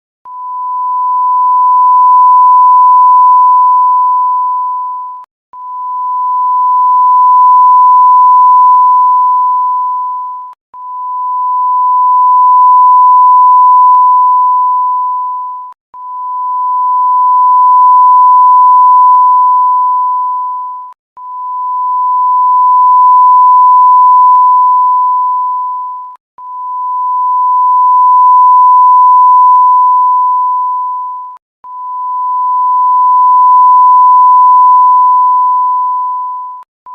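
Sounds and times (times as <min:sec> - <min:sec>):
censor bleep long beeps: 0:00.3 - 0:36.9.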